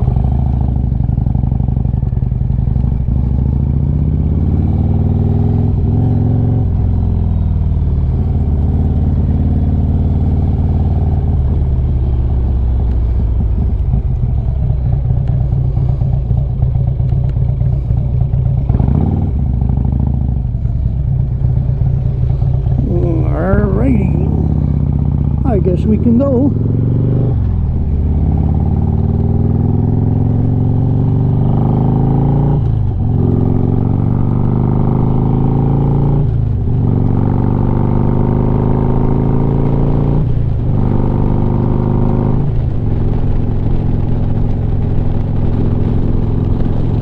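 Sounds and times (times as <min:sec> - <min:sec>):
motorcycle engine accelerating and idling: 0:00.0 - 0:47.0.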